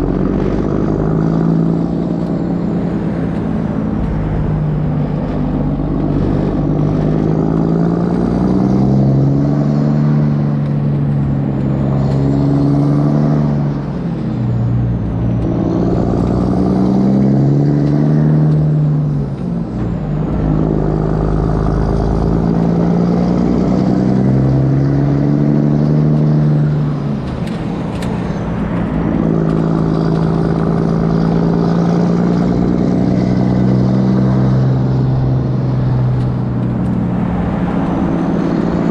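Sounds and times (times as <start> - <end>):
diesel truck engine accelerating: 0.0 - 38.9.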